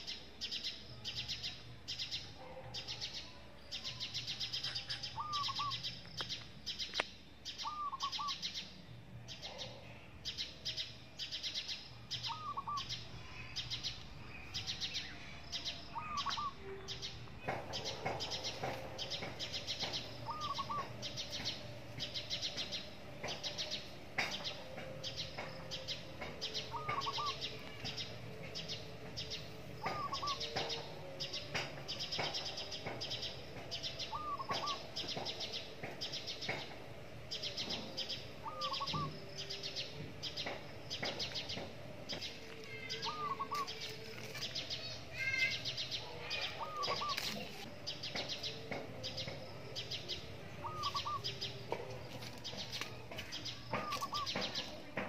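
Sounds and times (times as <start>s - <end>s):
rapid high bird chirping: 0.0s - 36.7s, 37.4s - 54.9s.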